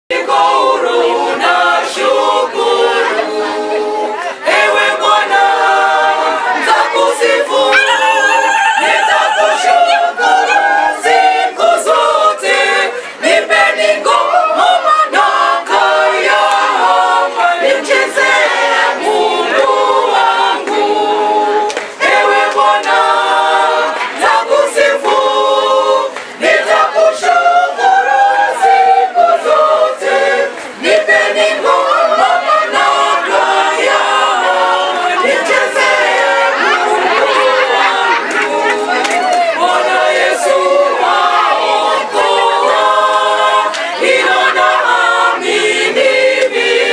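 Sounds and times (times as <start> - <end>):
choir singing a hymn unaccompanied: 0.1 - 46.9.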